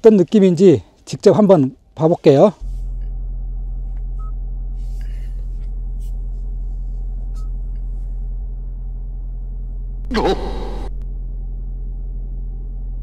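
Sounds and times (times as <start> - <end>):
low cabin hum: 0.0 - 13.0.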